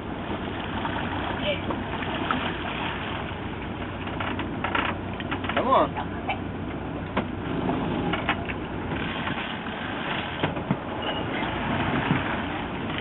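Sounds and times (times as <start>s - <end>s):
boat engine running: 0.0s - 13.0s
wind and water rushing: 0.0s - 13.0s.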